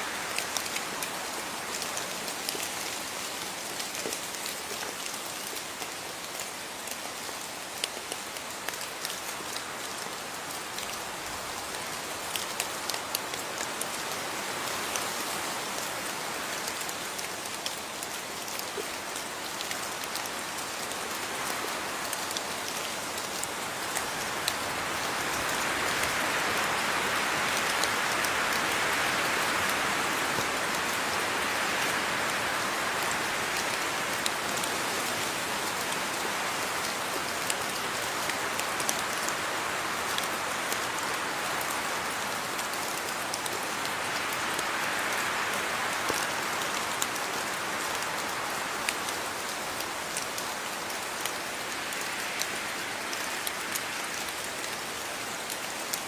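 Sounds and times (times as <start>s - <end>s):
rain falling: 0.0s - 56.0s
raindrops ticking on surface: 0.1s - 56.0s.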